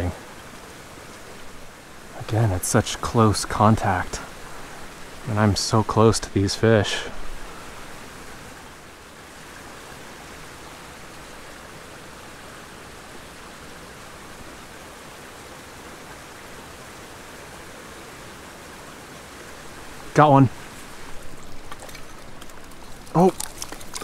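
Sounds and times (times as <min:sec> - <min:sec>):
creek water running: 0:00.0 - 0:24.0.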